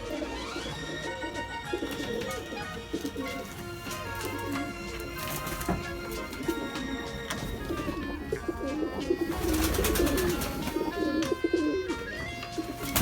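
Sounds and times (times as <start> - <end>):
background music: 0.0 - 13.0
pigeons cooing: 0.0 - 13.0.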